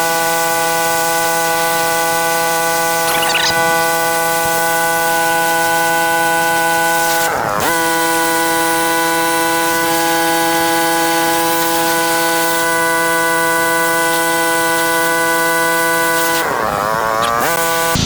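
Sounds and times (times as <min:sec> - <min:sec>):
pressure washer motor whine: 0:00.0 - 0:18.0.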